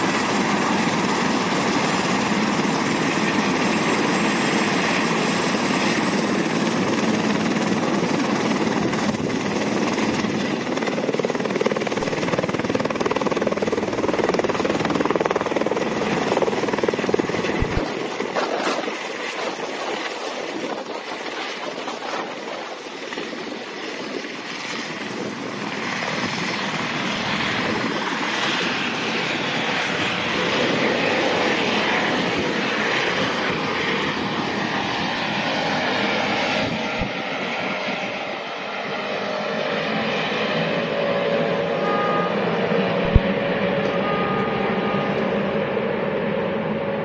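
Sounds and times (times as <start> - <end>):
helicopter turbine and rotor: 0.0 - 47.0.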